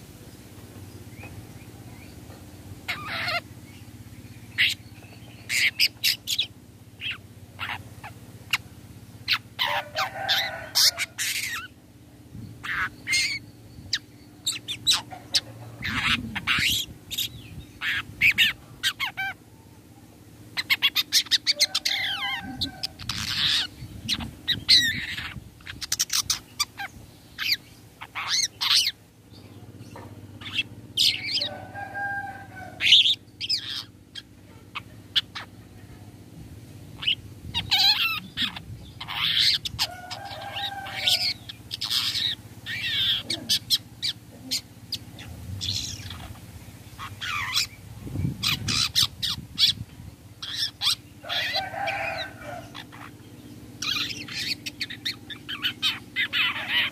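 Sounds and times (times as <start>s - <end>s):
bird singing harsh calls: 1.0s - 19.4s, 20.4s - 56.9s.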